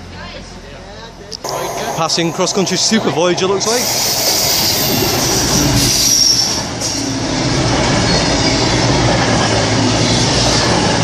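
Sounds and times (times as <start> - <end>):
train passing at speed: 1.4 - 11.0.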